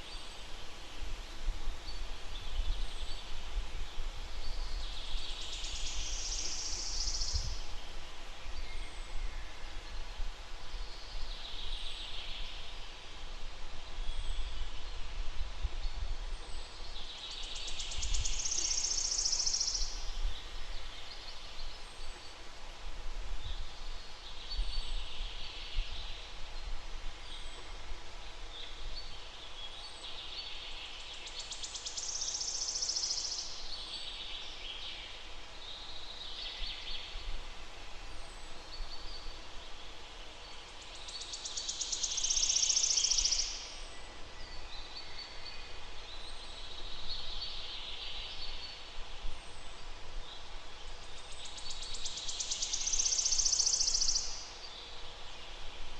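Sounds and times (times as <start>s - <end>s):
songbirds singing: 1.7s - 10.0s, 15.8s - 22.6s, 23.4s - 55.9s.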